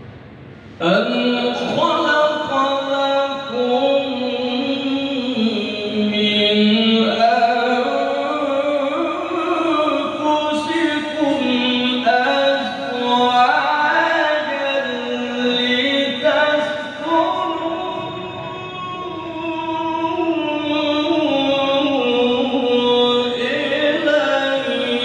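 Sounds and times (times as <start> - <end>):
man reciting melodically: 0.8 - 25.0.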